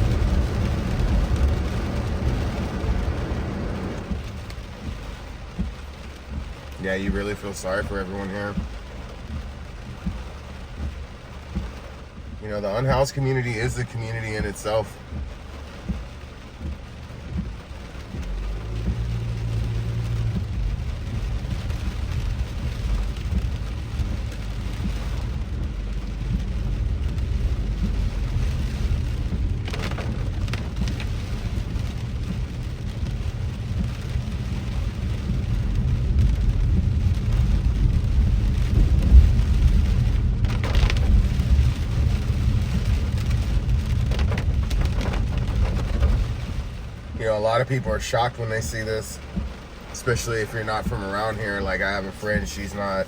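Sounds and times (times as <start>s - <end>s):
car driving on wet road: 0.0s - 53.0s
rain on car roof: 0.0s - 53.0s.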